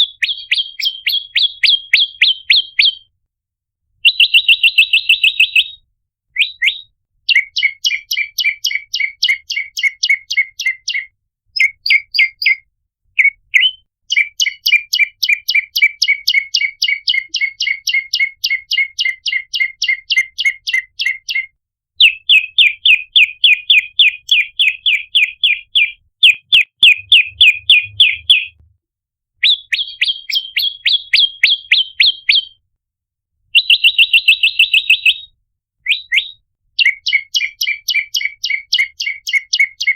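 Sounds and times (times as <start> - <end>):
bird chirping rapidly: 0.0 - 3.1, 4.0 - 5.8, 6.4 - 12.6, 13.2 - 21.4, 22.0 - 28.6, 29.4 - 32.6, 33.6 - 35.3, 35.9 - 39.9.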